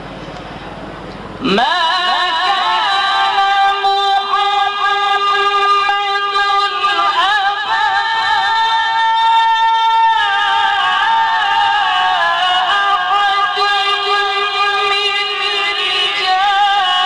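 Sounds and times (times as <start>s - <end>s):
man chanting melodic recitation: 1.4s - 17.0s.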